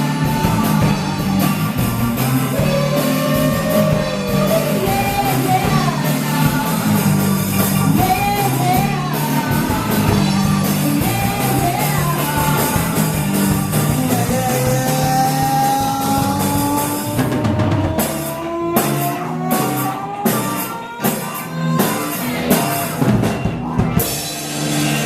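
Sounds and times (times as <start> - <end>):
person singing: 0.0 - 23.1
rock band playing: 0.0 - 25.0.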